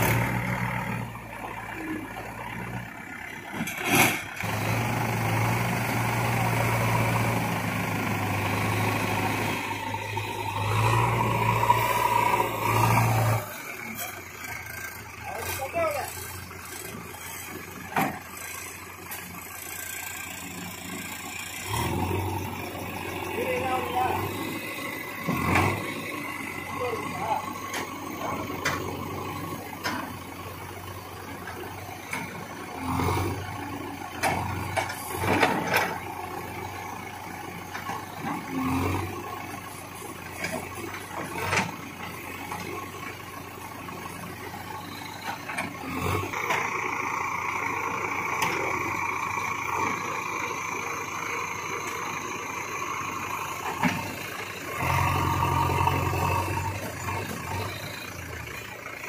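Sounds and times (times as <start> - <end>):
diesel engines under load: 0.0 - 59.0.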